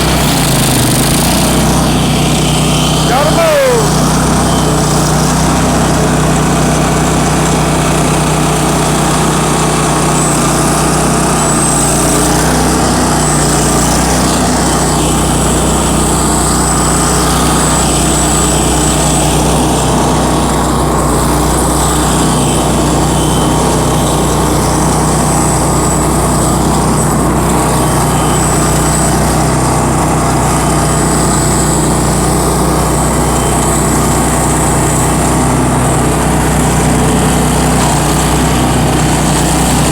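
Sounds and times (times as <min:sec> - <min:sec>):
stump grinder engine running: 0:00.0 - 0:39.9.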